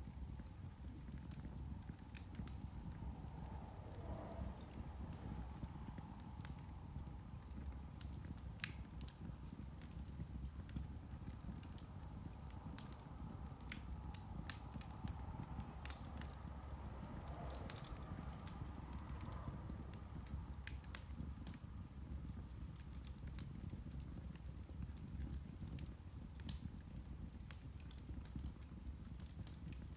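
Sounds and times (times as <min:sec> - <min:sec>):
low steady rumble: 0:00.0 - 0:29.9
peat fire crackling: 0:00.0 - 0:29.9.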